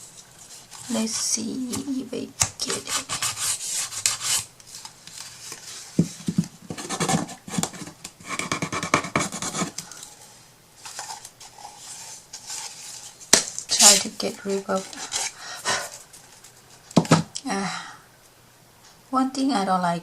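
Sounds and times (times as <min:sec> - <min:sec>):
hand scraping and rubbing: 0:00.0 - 0:17.0.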